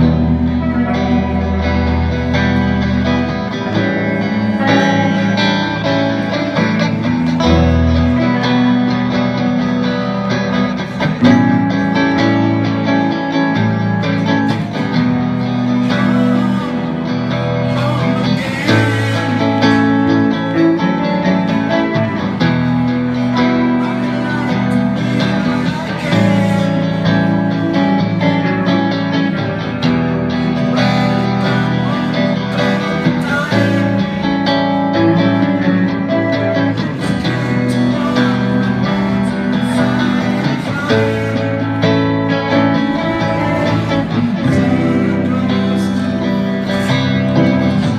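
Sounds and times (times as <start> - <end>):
guitar chords: 0.0 - 47.9
steady low bass line: 0.0 - 47.9.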